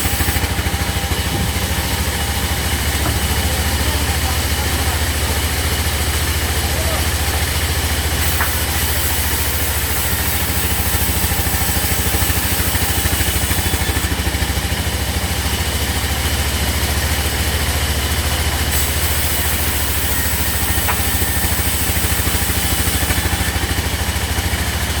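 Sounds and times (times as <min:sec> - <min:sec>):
sawmill engine idling: 0:00.0 - 0:25.0.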